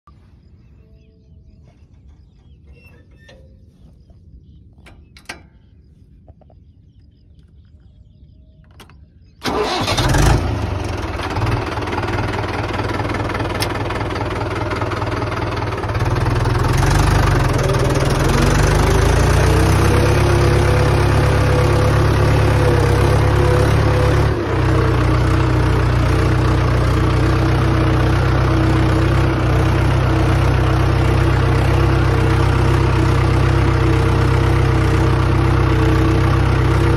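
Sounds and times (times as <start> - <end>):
tractor diesel engine running: 0.1 - 7.2, 7.8 - 36.9.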